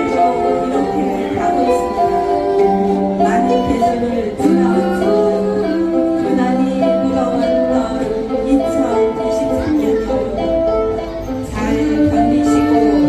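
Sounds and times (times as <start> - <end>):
ukuleles strumming: 0.0 - 13.0.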